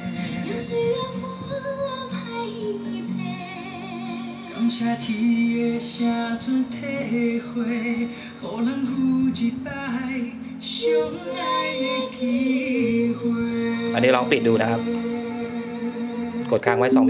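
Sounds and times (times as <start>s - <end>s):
song with singing over speaker: 0.0s - 17.0s.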